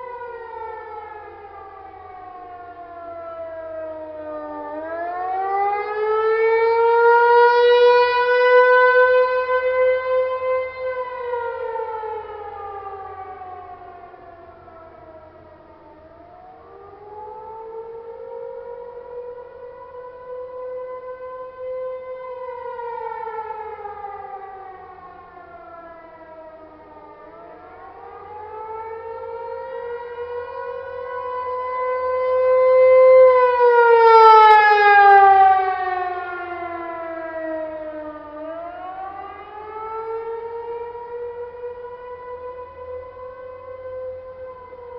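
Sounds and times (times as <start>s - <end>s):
warning siren wailing: 0.0s - 44.9s.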